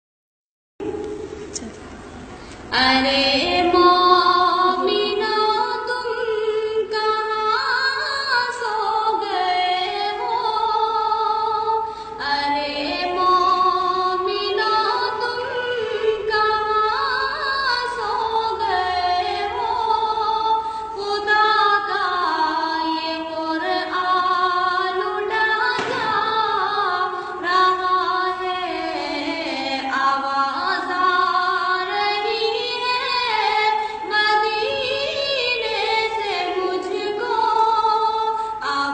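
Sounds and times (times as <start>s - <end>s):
girl singing devotional song: 2.5s - 38.9s.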